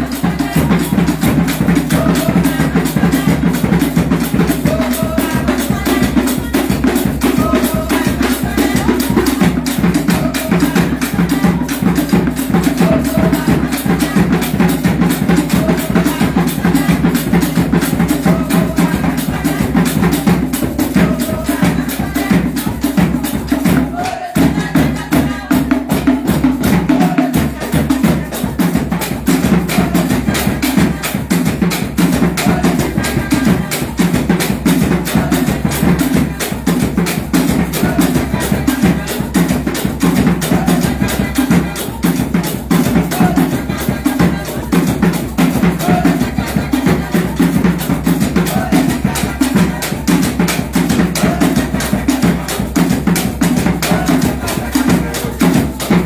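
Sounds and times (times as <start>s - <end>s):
live drums playing fast rhythm: 0.0s - 56.0s
voices singing: 0.0s - 56.0s.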